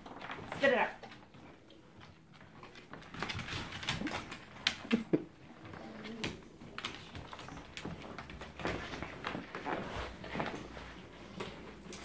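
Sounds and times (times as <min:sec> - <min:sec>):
dog claws clicking on hardwood floor: 0:00.0 - 0:12.0.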